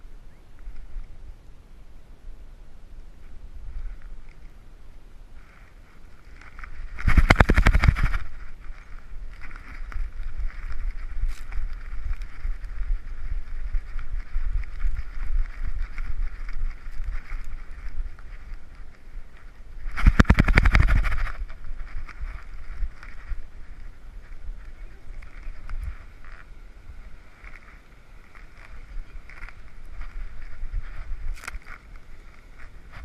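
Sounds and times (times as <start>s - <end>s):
background hiss and low rumble: 0.0s - 33.0s
camera rubbing and rattling: 5.4s - 26.5s, 27.3s - 33.0s.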